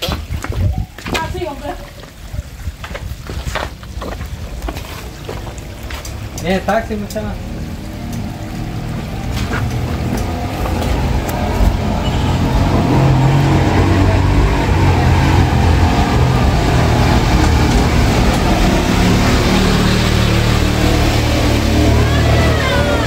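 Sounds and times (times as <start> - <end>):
car engine on cobblestones: 2.9 - 23.0.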